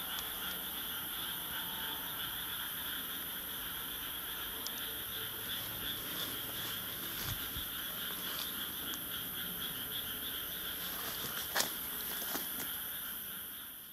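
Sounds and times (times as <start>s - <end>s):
night insects chirring: 0.0s - 13.9s.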